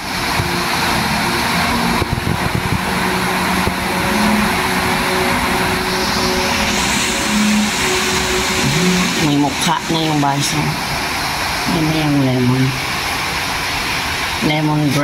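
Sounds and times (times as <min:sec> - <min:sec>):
faint pitched tones: 0:00.0 - 0:13.5
loud rushing fan noise: 0:00.0 - 0:14.6.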